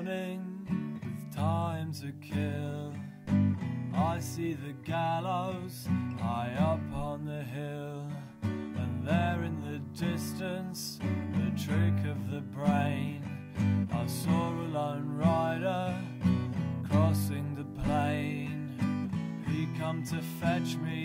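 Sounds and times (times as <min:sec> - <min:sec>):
man singing: 0:00.0 - 0:03.2, 0:03.9 - 0:21.0
strummed acoustic guitar: 0:00.0 - 0:21.0.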